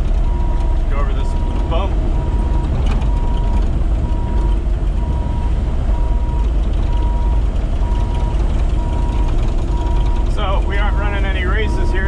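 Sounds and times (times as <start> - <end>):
excavator diesel engine rumbling: 0.0 - 12.0
travel alarm beeping: 0.2 - 12.0.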